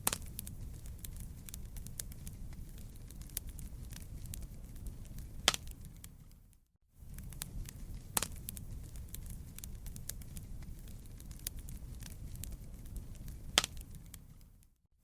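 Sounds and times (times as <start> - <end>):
loud fire pops: 0.0 - 6.4, 7.0 - 14.6
campfire crackling: 0.0 - 14.7.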